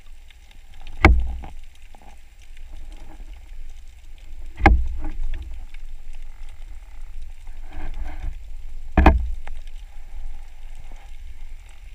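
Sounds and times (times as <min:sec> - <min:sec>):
muffled underwater rumble: 0:00.0 - 0:11.9
water gurgling: 0:00.0 - 0:11.9.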